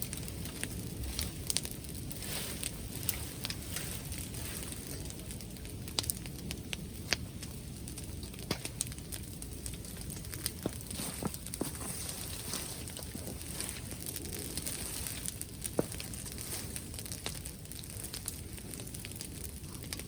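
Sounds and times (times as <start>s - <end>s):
bonfire crackling and popping: 0.0s - 20.0s
low steady rumble: 0.0s - 20.0s.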